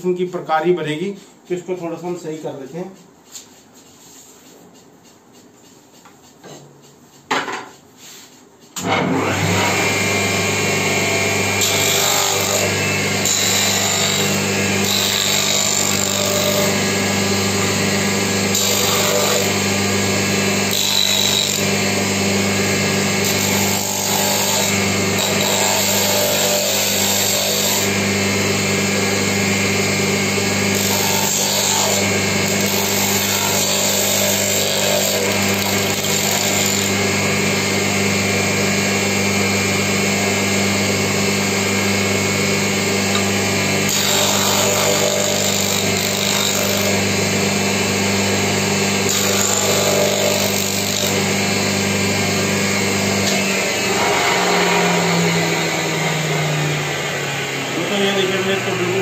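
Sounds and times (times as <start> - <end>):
grinder grinding metal: 8.8 - 59.0.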